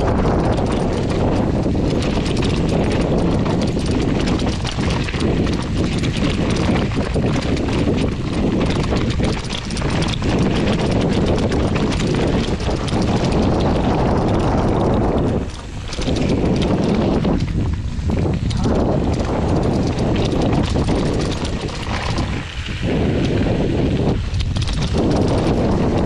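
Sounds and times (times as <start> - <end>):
bike clattering and rattling: 0.0 - 26.0
tyres crunching over stones: 0.4 - 26.0.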